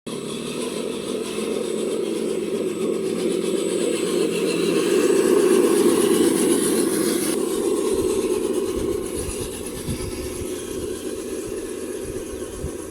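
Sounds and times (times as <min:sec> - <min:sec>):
mechanical hum of rc models: 0:00.1 - 0:12.9.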